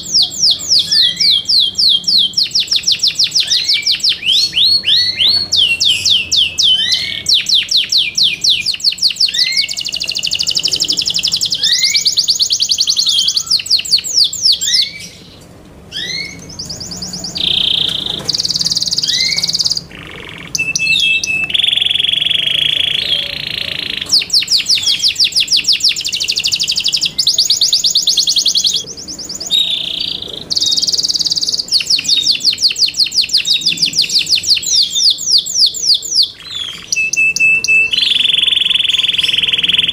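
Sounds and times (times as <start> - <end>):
buzzy bird phrase: 0.0 - 39.9
canary singing trills: 0.0 - 39.9.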